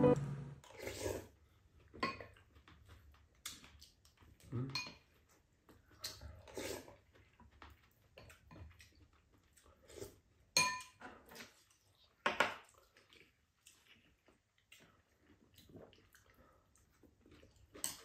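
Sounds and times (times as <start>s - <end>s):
soft chewing: 0.6s - 18.0s.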